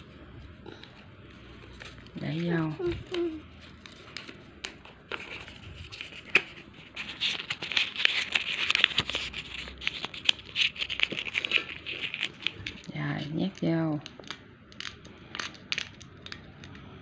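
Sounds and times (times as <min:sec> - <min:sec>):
banknote crinkling: 0:01.3 - 0:16.1.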